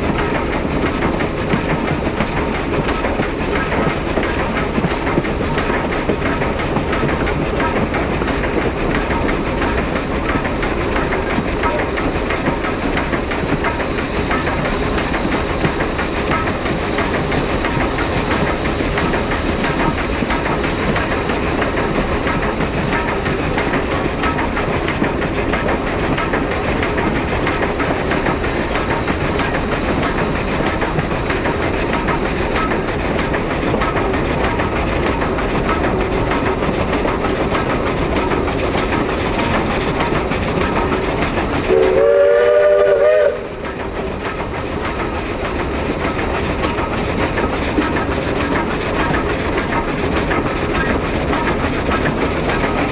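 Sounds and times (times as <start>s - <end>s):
train wheels clattering on rails: 0.0s - 52.9s.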